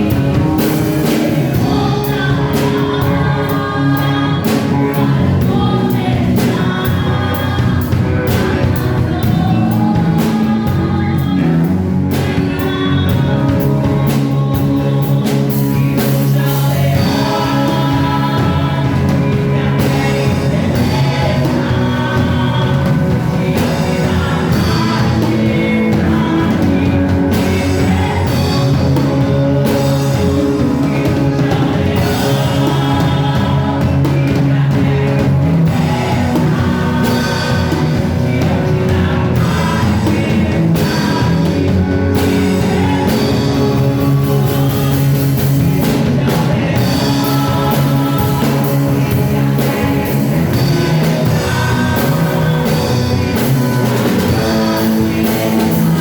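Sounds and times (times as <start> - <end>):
drum kit: 0.0 - 56.0
electric guitar: 0.0 - 56.0
people singing: 0.0 - 56.0.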